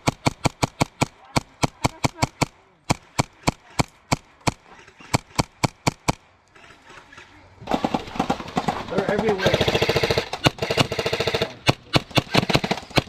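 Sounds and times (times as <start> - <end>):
airsoft gun shots: 0.0 - 6.3, 7.7 - 13.0.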